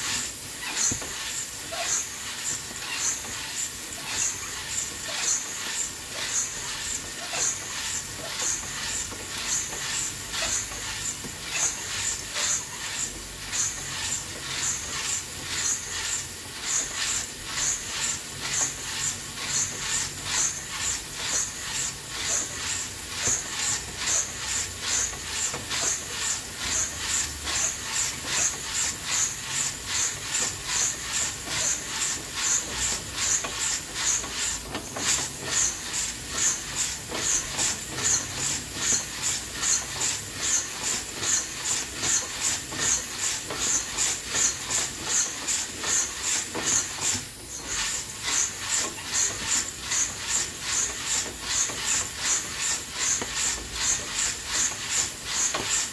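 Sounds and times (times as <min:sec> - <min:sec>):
coffee beans rattling in drum roaster: 0:00.0 - 0:55.9.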